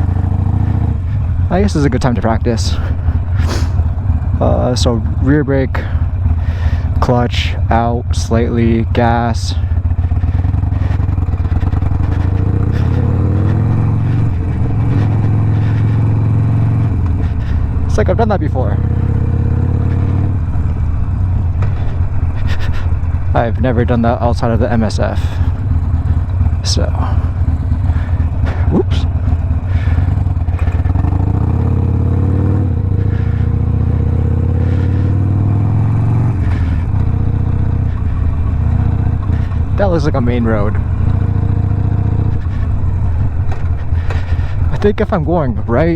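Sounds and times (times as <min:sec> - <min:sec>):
motorcycle engine pulling away: 0:00.0 - 0:45.9.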